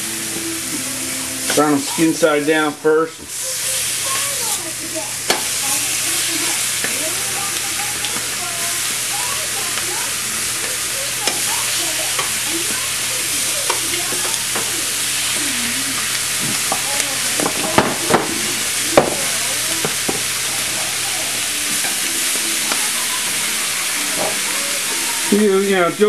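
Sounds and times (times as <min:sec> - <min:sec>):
chicken sizzling on griddle: 0:00.0 - 0:26.0.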